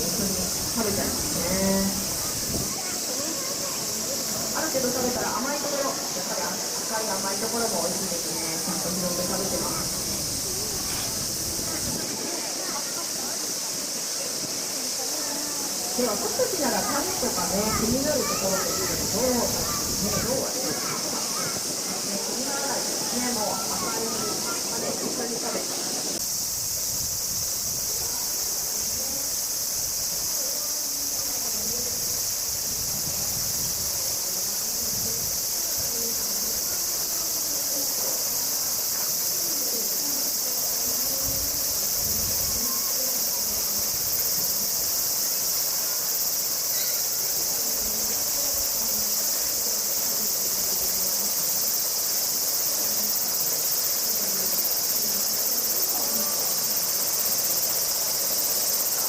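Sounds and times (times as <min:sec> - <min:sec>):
cicadas singing: 0:00.0 - 0:59.0.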